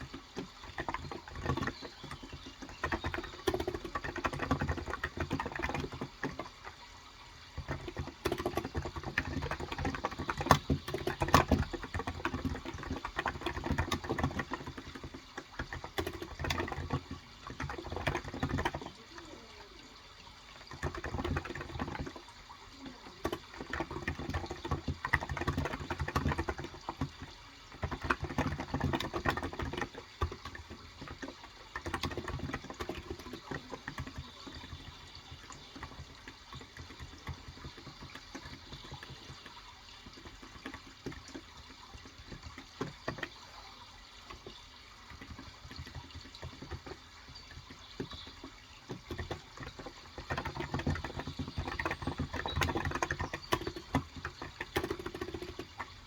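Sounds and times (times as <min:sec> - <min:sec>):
soft muted keyboard typing: 0:00.0 - 0:06.8, 0:07.4 - 0:56.0.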